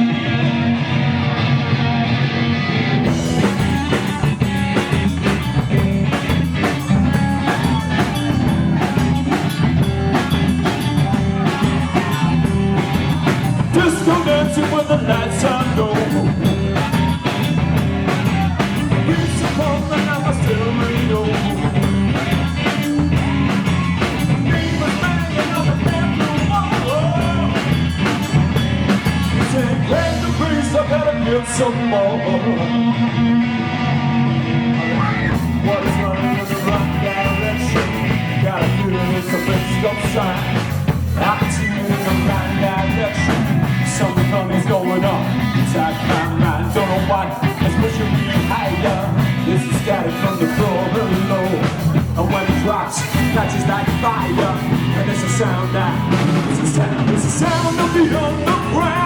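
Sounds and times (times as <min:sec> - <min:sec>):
electric guitar: 0:00.0 - 0:59.0
rock band playing: 0:00.0 - 0:59.0.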